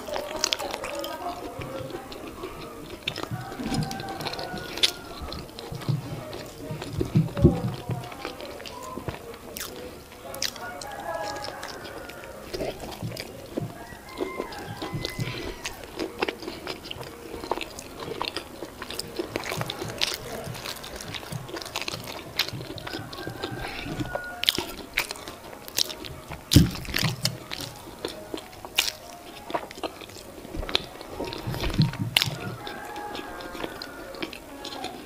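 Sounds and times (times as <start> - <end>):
close-up wet chewing: 0.0 - 35.0.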